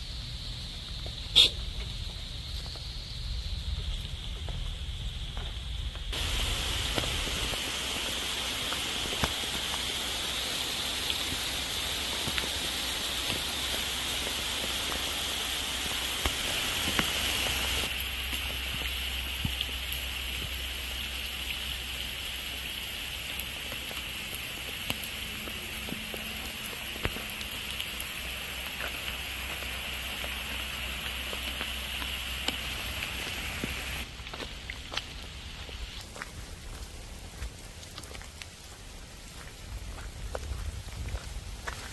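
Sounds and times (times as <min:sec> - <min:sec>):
heavy rain: 0:03.2 - 0:41.9
raindrops tapping: 0:03.9 - 0:41.9.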